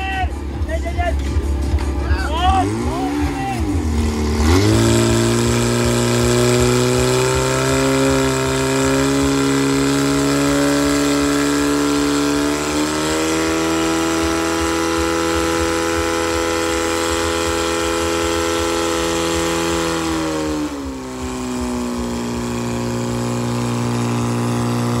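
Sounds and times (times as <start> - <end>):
pump engine running at high revs: 0.0 - 25.0.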